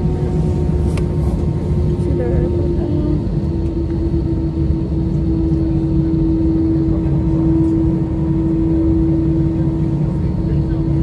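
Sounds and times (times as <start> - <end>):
jet engine drone: 0.0 - 11.0
steady hum tone: 0.0 - 11.0.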